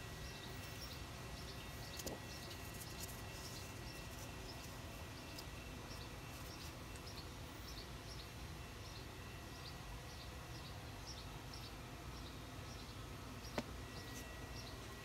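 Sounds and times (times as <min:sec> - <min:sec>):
birds chirping: 0:00.0 - 0:15.0
faint high whine: 0:00.0 - 0:15.0.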